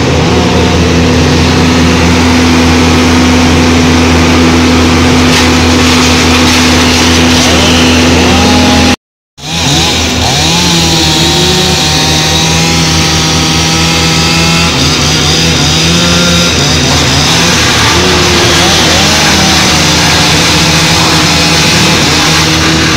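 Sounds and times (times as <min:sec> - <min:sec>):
chainsaw cutting log: 0:00.0 - 0:22.9
wood chipper engine running: 0:00.0 - 0:22.9.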